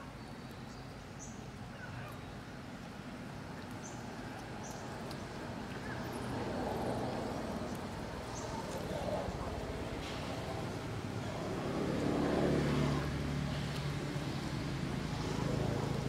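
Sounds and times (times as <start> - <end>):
broad rush of noise: 0.8 - 16.0.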